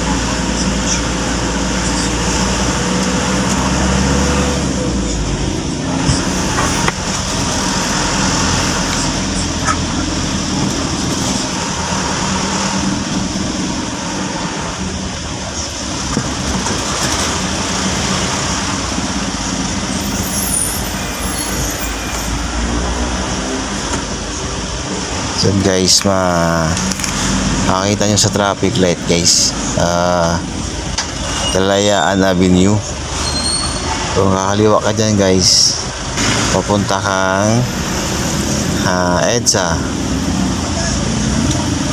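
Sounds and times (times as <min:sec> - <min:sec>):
car engine hum and road noise: 0:00.0 - 0:41.9.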